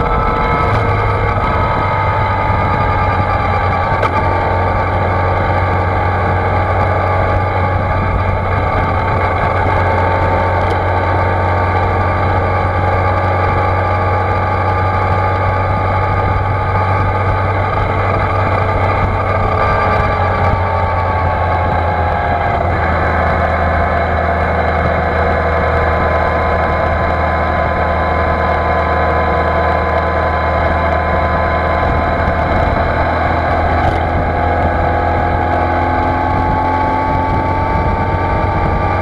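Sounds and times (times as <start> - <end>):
muffled motorcycle engine cruising: 0.0 - 39.0.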